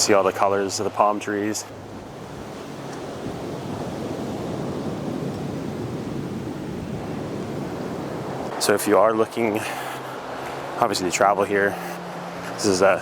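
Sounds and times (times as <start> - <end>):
ocean surf on sandy beach: 0.0 - 13.0.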